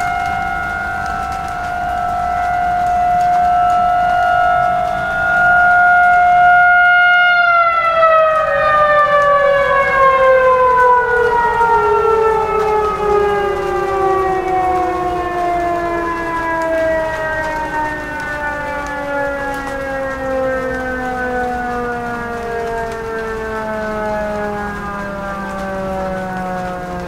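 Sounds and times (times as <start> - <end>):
warning siren winding down: 0.0 - 27.0.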